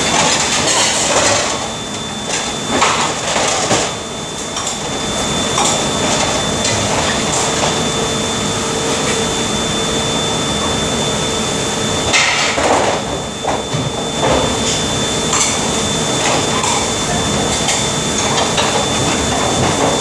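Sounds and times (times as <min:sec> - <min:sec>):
dishwashing machinery running: 0:00.0 - 0:20.0.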